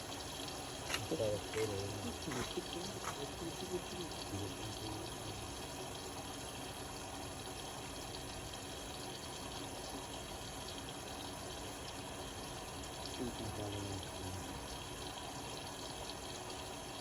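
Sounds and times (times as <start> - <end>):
water rushing in washing machine: 0.0 - 17.0.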